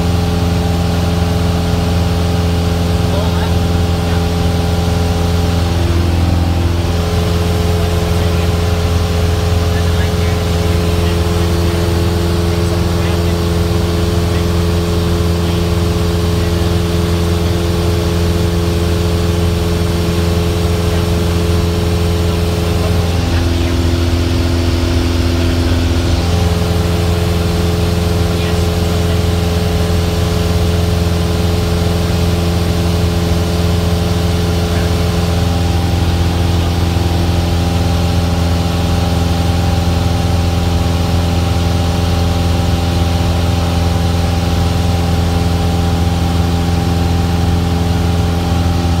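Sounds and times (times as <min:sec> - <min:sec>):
aircraft engine and propeller drone: 0:00.0 - 0:49.0.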